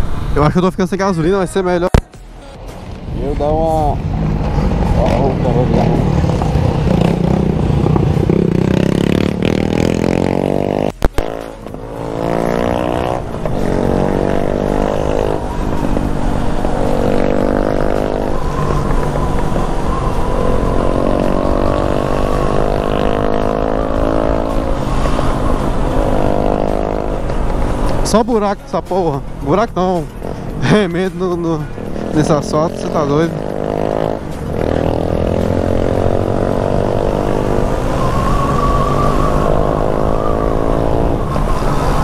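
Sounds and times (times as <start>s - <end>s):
motorcycle engine accelerating: 4.0s - 27.9s, 31.7s - 42.0s.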